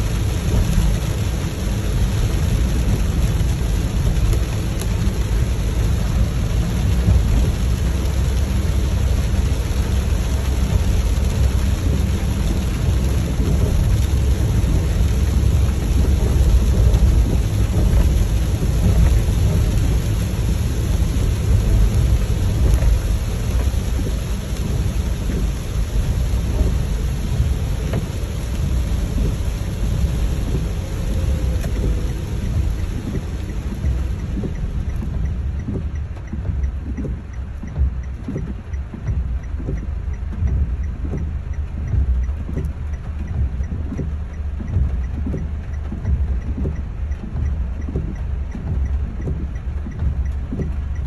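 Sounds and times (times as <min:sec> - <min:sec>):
heavy rain drumming on car roof: 0:00.0 - 0:51.0
low rumble of car: 0:00.0 - 0:51.0.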